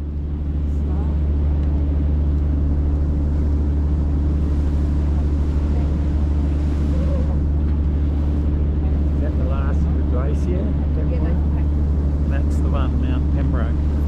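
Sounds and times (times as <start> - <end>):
boat engines droning: 0.0 - 14.0.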